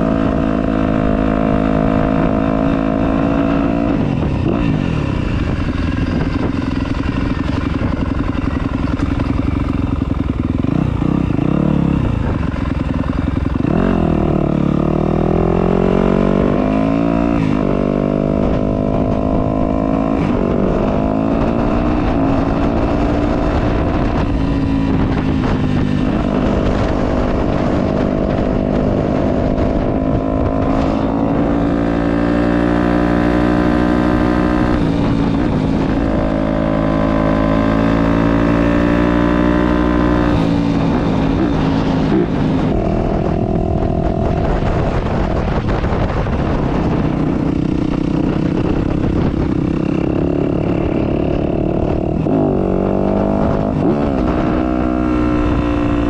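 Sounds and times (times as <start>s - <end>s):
dirt bike engine running: 0.0s - 56.0s
wind noise on microphone: 0.0s - 56.0s.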